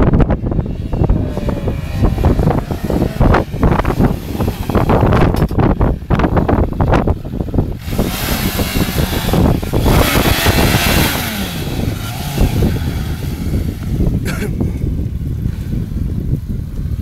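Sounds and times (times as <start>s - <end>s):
motorcycle engine passing: 0.2s - 14.3s.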